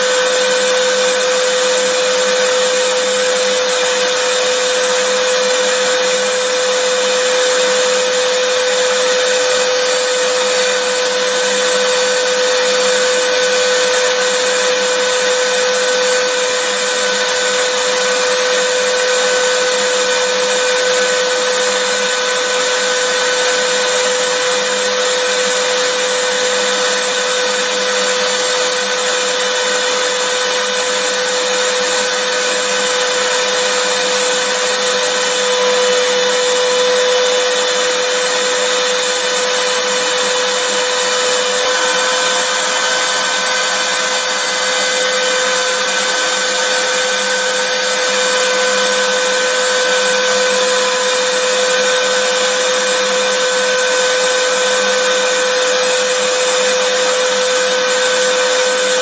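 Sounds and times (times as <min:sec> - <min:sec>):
vacuum cleaner motor running: 0:00.0 - 0:59.0.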